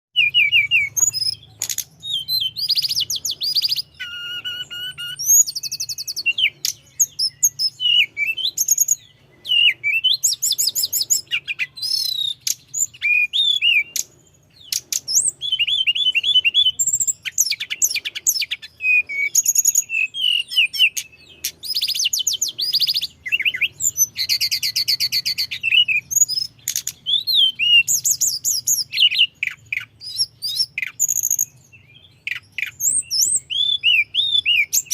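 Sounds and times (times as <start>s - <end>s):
songbird singing: 0.1s - 34.9s.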